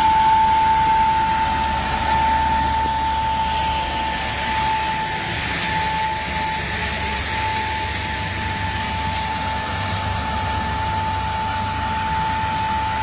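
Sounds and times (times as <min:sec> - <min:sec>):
constant high whine: 0:00.0 - 0:13.0
road sweeper suction rushing: 0:00.0 - 0:13.0.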